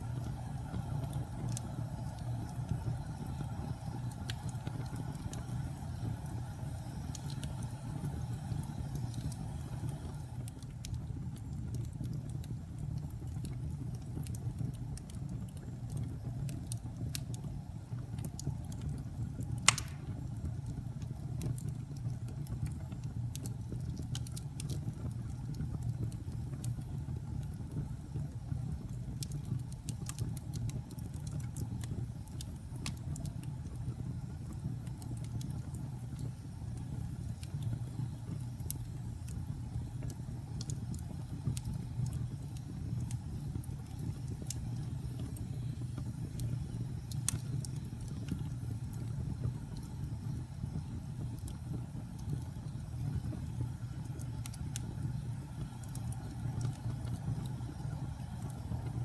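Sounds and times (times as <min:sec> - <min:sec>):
fire crackling: 0:00.0 - 0:59.0
low fire rumble: 0:00.0 - 0:59.0
wood fire popping: 0:00.0 - 0:59.0.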